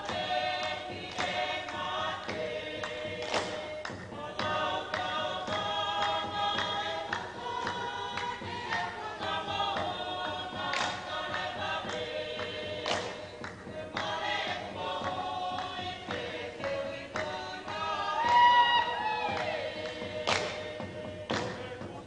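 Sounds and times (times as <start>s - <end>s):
group chant singing: 0.0s - 22.0s.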